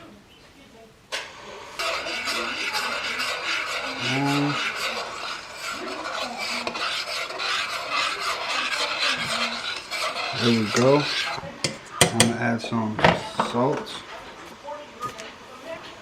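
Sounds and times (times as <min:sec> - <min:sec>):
spoon scraping a pan: 0:01.2 - 0:16.0.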